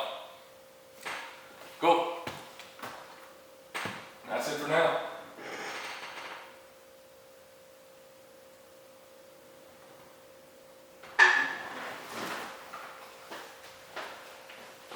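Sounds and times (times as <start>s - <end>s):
steady pure hum: 0.0s - 14.9s.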